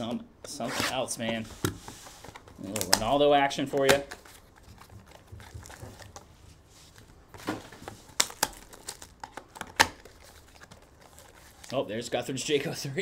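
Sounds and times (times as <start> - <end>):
cardboard and wrapper crinkling: 1.6 - 12.2.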